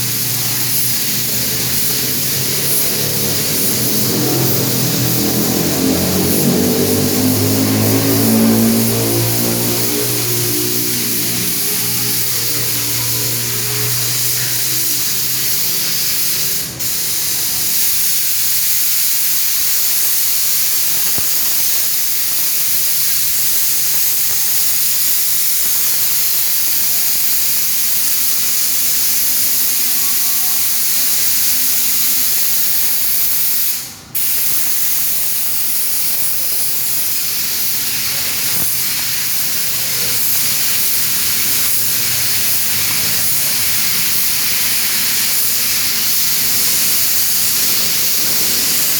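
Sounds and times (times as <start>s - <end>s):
paint spray gun hissing: 0.0s - 48.9s.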